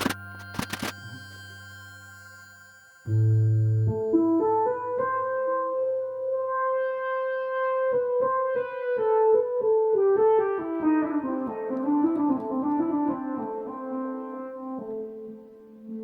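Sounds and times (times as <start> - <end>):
synthesizer piano notes: 3.1 - 16.0.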